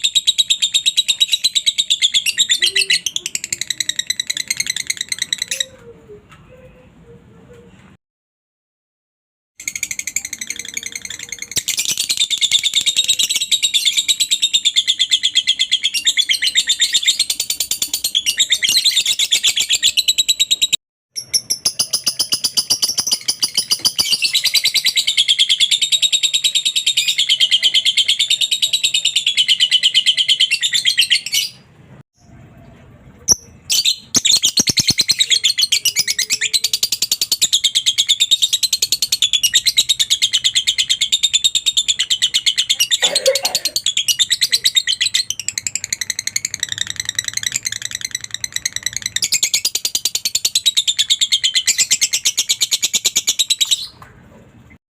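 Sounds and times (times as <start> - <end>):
lovebird chattering song: 0.0 - 5.9, 9.6 - 31.6, 33.3 - 54.0.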